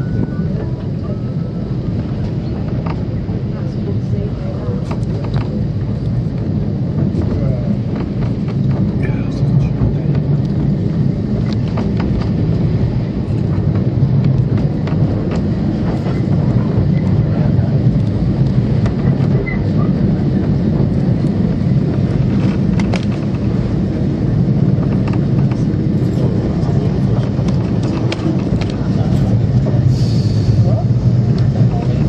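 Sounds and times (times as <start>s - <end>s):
tram rumbling on track: 0.0s - 32.0s
sharp clicks of tram: 1.8s - 32.0s.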